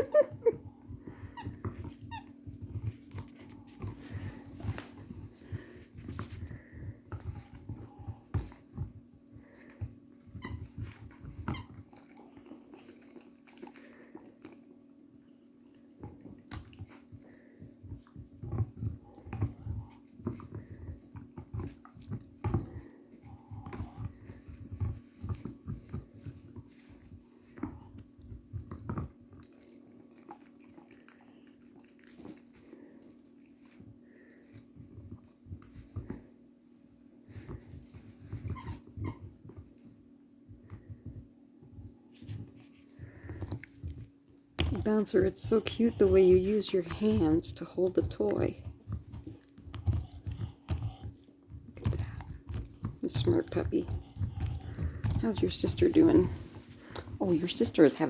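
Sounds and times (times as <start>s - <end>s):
dogs chewing toys: 0.0s - 58.0s.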